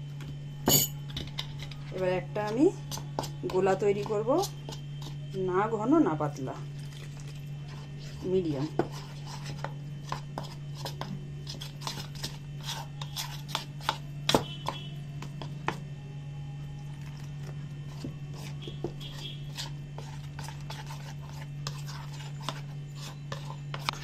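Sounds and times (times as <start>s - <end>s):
steady low hum: 0.0s - 24.0s
metal spoon stirring in a bowl: 0.7s - 15.6s, 16.9s - 24.0s.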